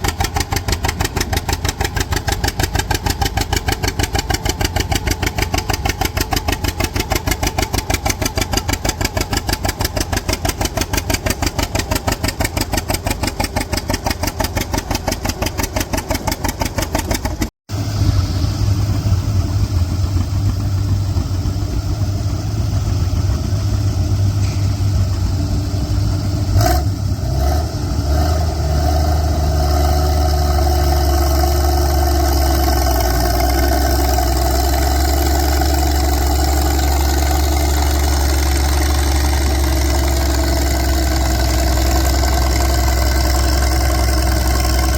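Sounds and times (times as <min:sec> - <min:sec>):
engine humming deeply: 0:00.0 - 0:44.9
tractor engine chugging: 0:00.0 - 0:44.9.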